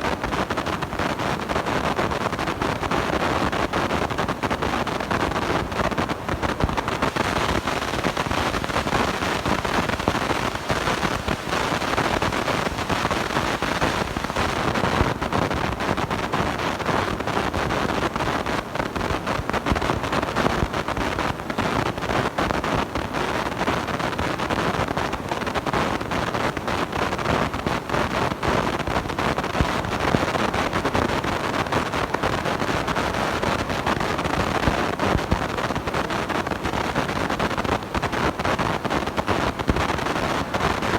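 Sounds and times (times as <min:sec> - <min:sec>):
distorted microphone noise with crackles: 0:00.0 - 0:40.9.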